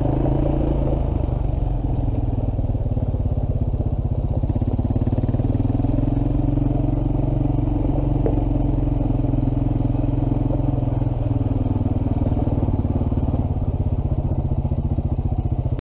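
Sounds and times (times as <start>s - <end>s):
quad bike engine running: 0.0s - 15.8s.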